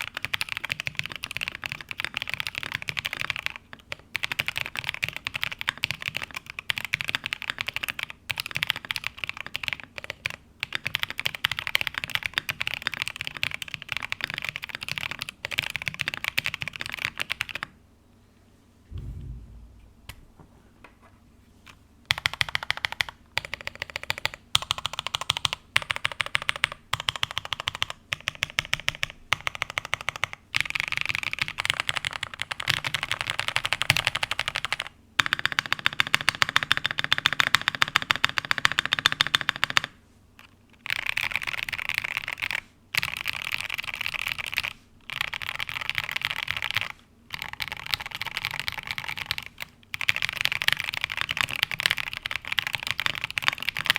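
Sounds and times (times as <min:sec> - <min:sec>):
mechanical keyboard typing: 0:00.0 - 0:17.7, 0:22.1 - 0:53.9.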